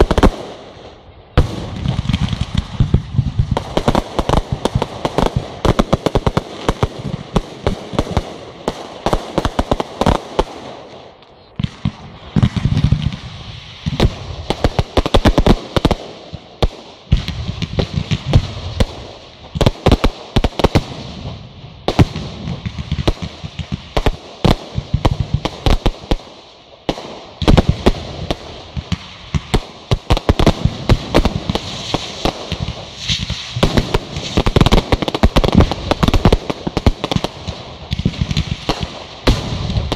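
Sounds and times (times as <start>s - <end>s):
fireworks bursts and bangs: 0.0s - 39.9s
fireworks crackling: 0.0s - 39.9s.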